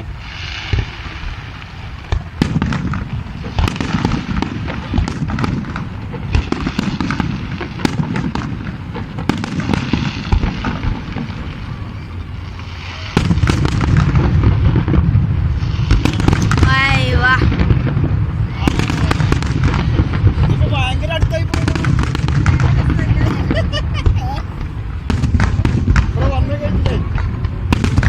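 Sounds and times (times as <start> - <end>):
fireworks bangs and crackling pops: 0.0 - 28.0.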